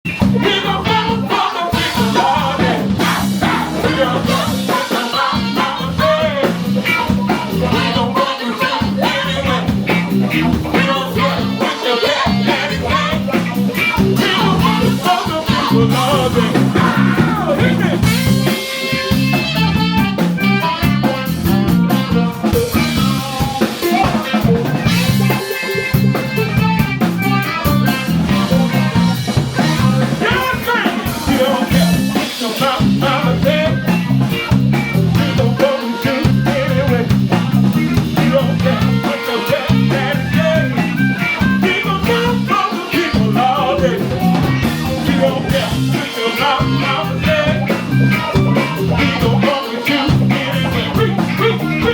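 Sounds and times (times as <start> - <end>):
drum kit beat: 0.0 - 51.9
guitar: 0.0 - 51.9
person singing: 0.1 - 51.9.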